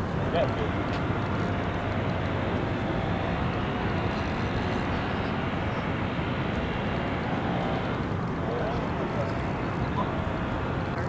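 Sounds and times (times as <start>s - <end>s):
distant engine rumble: 0.0s - 11.0s
faint even whine: 0.0s - 11.0s.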